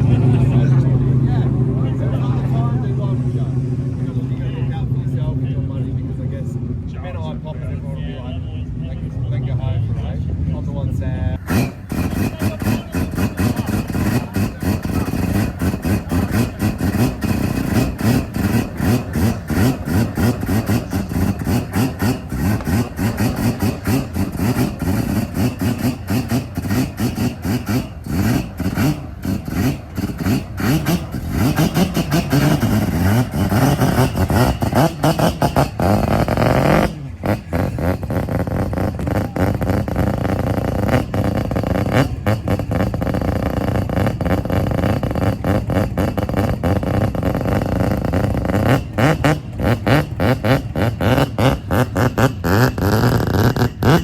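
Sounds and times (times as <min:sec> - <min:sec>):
car engine revving roughly: 0:00.0 - 0:08.1, 0:09.0 - 0:54.0.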